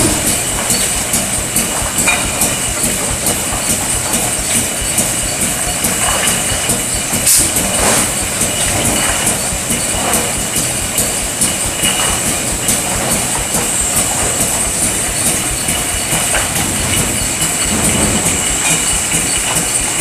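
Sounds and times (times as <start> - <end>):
mechanical clatter of cans: 0.0 - 20.0.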